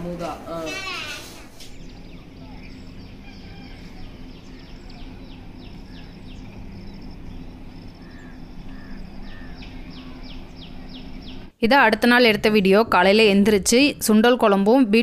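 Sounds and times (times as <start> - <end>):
outdoor background noise: 0.0 - 15.0
birds chirping: 0.2 - 12.3
low hum: 1.6 - 14.4.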